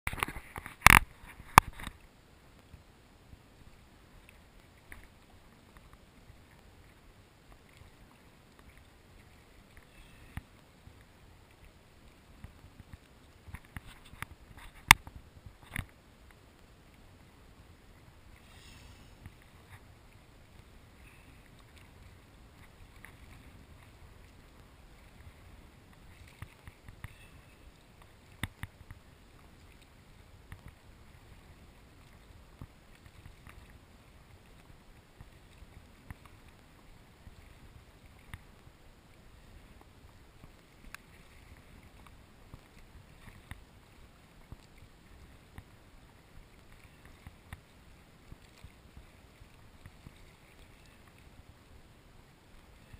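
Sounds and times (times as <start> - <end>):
paddle splashing water: 0.1 - 52.9
waves slapping kayak hull: 0.1 - 52.9
wind and waves rumble: 0.1 - 52.9.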